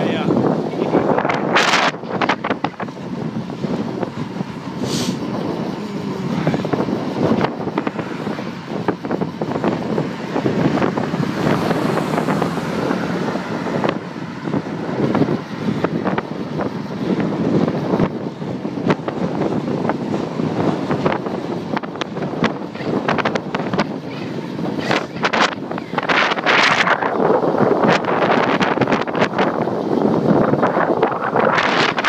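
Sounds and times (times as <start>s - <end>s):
road rumble: 0.0s - 32.0s
wind buffeting microphone: 0.0s - 32.0s.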